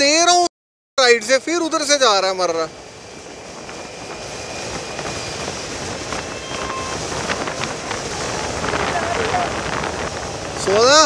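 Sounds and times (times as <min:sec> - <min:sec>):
wind and road rush: 0:01.4 - 0:11.0.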